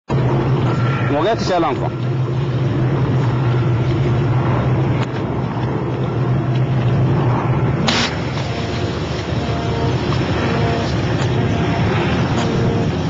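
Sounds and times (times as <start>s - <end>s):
boat engine humming: 0.1s - 13.0s.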